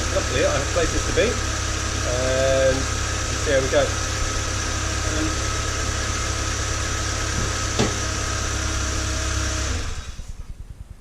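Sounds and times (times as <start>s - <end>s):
car engine idling: 0.0s - 10.4s
engine switching off and running down: 0.0s - 11.0s.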